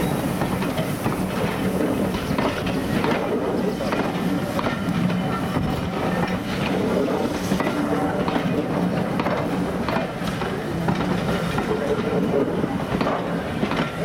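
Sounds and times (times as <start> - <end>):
train wheels rumbling on rails: 0.0 - 14.0
wheels clicking over rail joints: 0.0 - 14.0.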